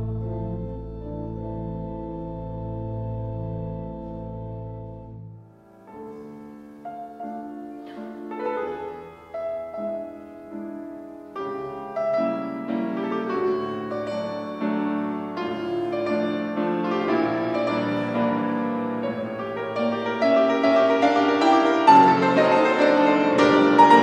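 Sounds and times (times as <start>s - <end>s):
solo classical piano: 0.0s - 24.0s.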